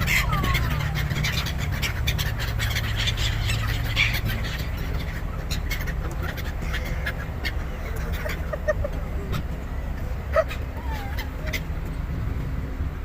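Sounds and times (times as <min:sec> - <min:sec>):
seagulls calling: 0:00.0 - 0:12.0.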